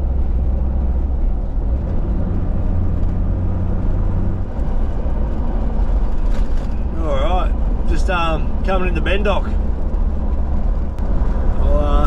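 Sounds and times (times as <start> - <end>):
engine and road rumble in cabin: 0.0 - 12.0.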